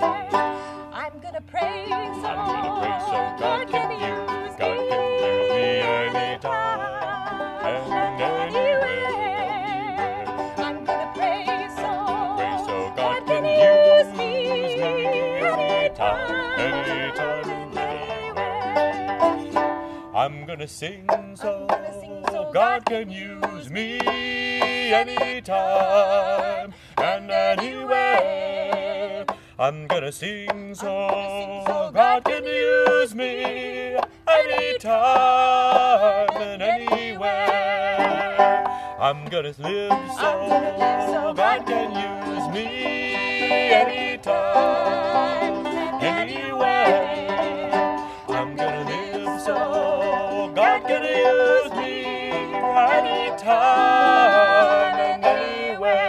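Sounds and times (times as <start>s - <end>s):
banjo strummed and picked: 0.0s - 56.0s
man and woman singing duet: 0.0s - 56.0s
small acoustic string instrument: 0.0s - 56.0s.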